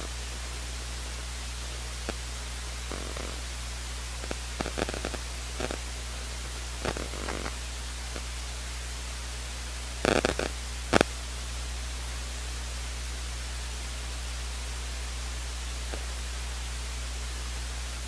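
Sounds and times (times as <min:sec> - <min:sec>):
microphone hiss and hum: 0:00.0 - 0:18.0.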